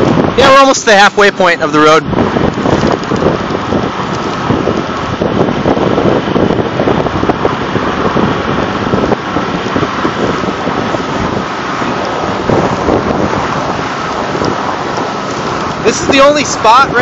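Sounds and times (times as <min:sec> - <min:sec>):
truck driving noise: 0:00.0 - 0:17.0
wind buffeting microphone: 0:00.0 - 0:17.0.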